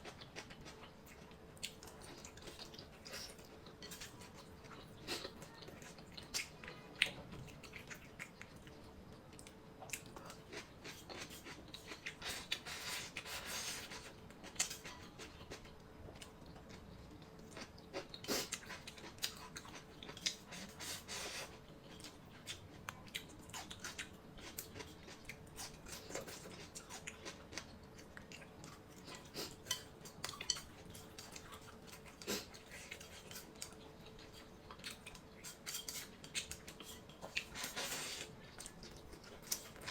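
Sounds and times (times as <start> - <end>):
faint steady hum: 0.0 - 39.9
person chewing food: 0.0 - 39.9.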